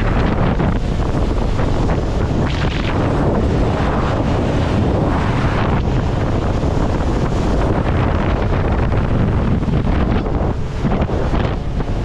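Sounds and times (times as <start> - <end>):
outboard motors rumbling: 0.0 - 12.0
rush of boat wake: 0.0 - 12.0
wind buffeting microphone: 0.0 - 12.0.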